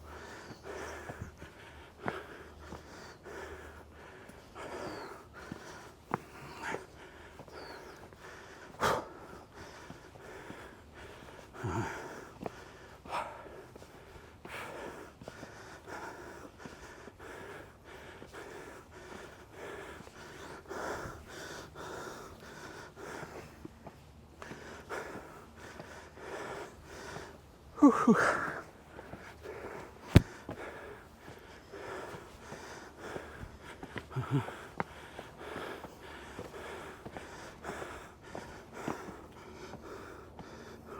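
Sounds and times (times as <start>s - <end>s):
heavy laboured breathing: 0.0s - 40.9s.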